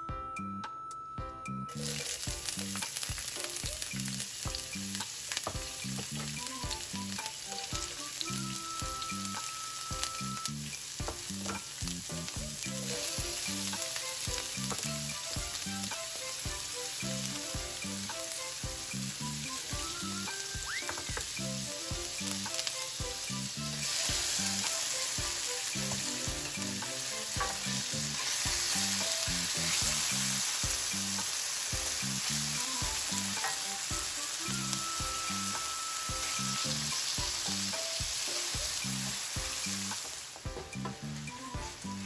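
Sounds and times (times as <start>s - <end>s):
vegetables sizzling in oil: 1.7s - 42.0s.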